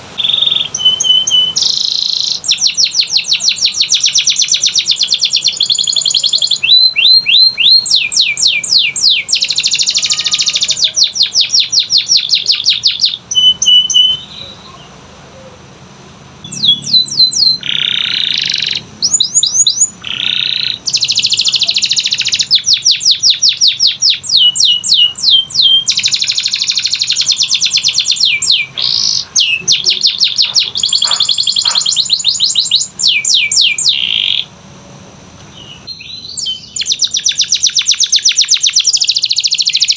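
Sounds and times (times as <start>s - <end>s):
canary singing in trills: 0.0s - 34.6s, 35.4s - 39.9s.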